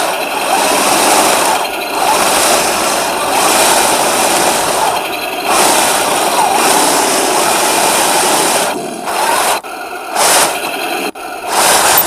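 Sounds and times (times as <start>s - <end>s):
toy tank motors and tracks grinding: 0.0s - 12.0s.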